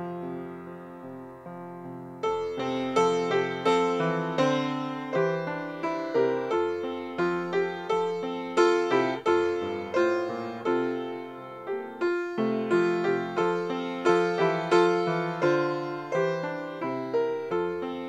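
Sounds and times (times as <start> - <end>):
solo piano playing: 0.0 - 18.0.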